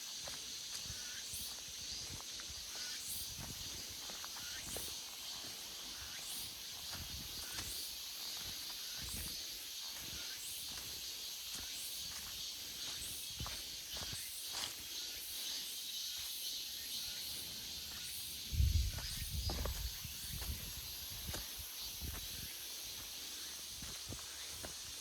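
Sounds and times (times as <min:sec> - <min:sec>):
cicadas buzzing: 0:00.0 - 0:25.0.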